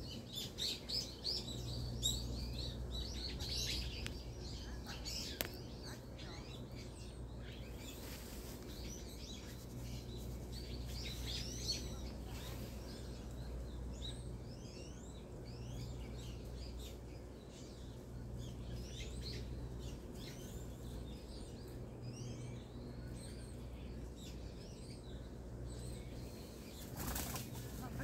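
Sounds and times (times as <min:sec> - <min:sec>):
low steady rumble: 0:00.0 - 0:28.0
small birds chirping: 0:00.0 - 0:28.0.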